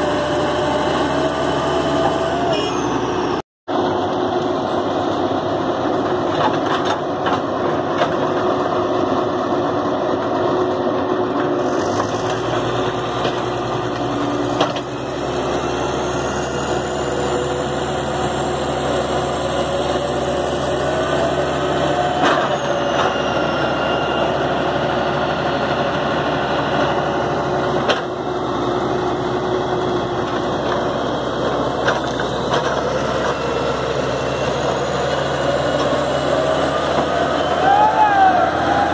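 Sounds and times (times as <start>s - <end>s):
diesel engines running hard: 0.0s - 38.9s.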